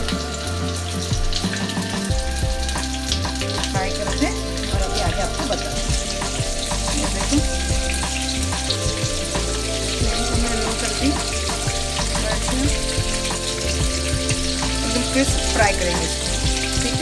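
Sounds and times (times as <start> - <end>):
prawns sizzling in oil: 0.0 - 17.0.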